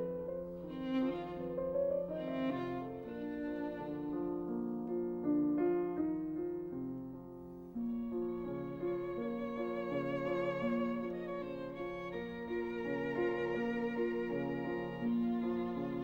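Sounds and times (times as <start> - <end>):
slow violin melody: 0.0 - 5.0, 7.8 - 16.0
piano chords: 0.0 - 16.0.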